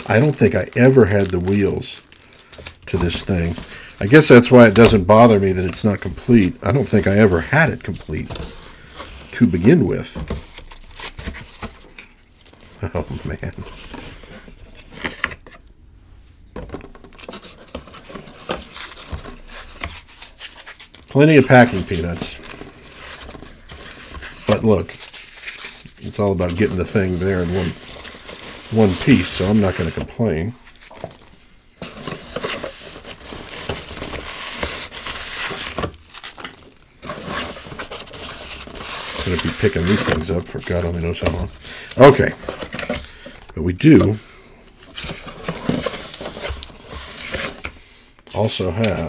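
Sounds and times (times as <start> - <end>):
packing peanuts rustling and crackling: 0.0 - 15.5, 16.6 - 49.0.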